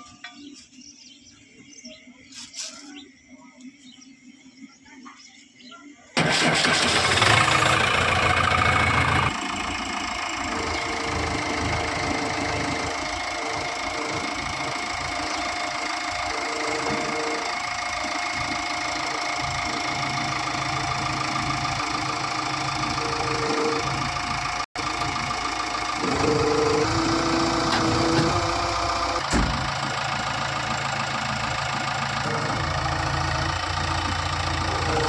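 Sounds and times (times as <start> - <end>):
diesel engine running: 6.2 - 35.0.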